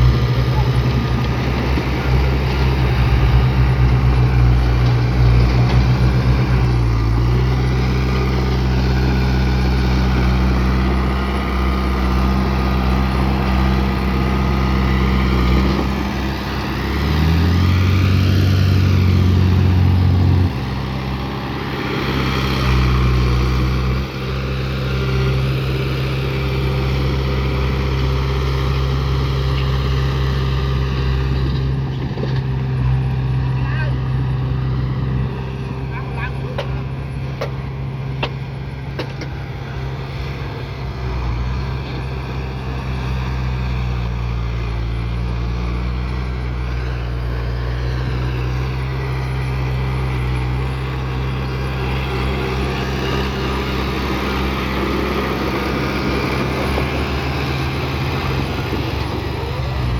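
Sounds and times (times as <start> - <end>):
diesel engine running and revving: 0.0 - 59.9.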